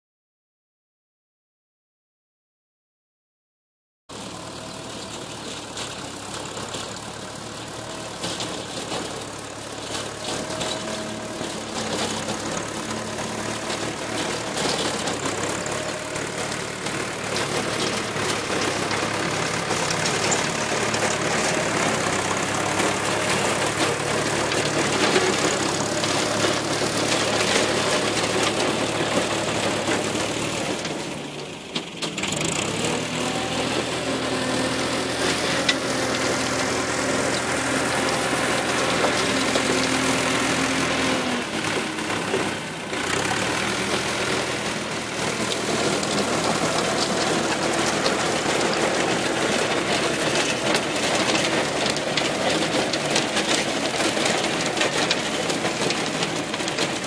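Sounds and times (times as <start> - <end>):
tractor diesel engine under load: 4.1 - 57.0.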